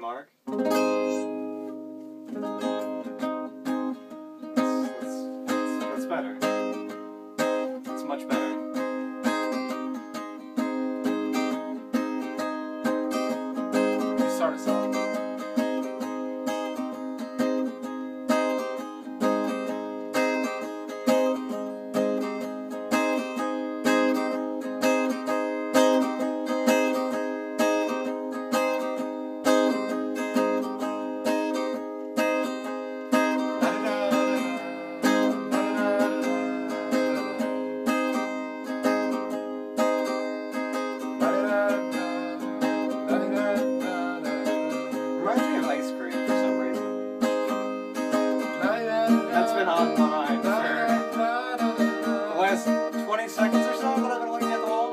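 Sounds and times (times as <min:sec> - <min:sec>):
acoustic guitar strumming chords: 0:00.0 - 0:54.9.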